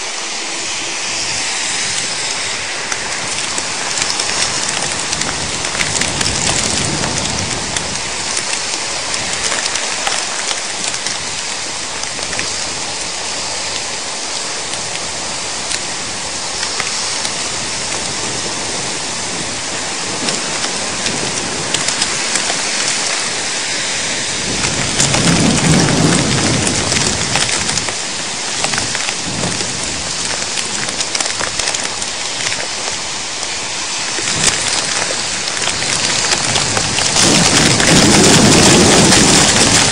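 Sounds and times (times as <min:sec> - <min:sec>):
heavy rain pelting down: 0:00.0 - 0:39.9
thunder rumbling: 0:00.0 - 0:39.9.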